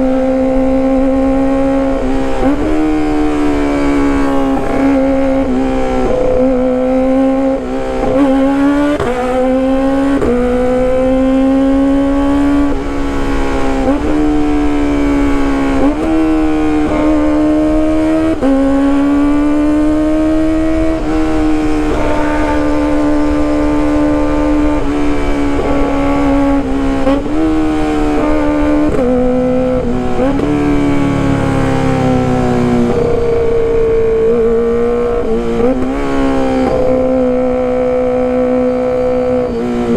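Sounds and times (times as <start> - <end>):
sportbike engine revving: 0.0 - 39.9.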